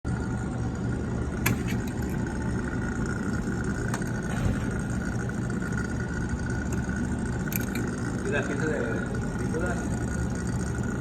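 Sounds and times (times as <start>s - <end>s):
motor humming and whining: 0.1s - 11.0s.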